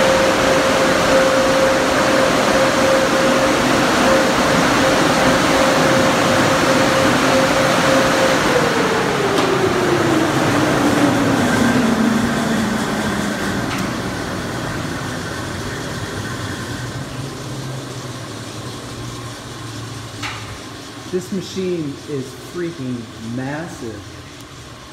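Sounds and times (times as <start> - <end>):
car wash rushing noise: 0.0 - 24.9
motor whine spinning down: 0.0 - 24.9.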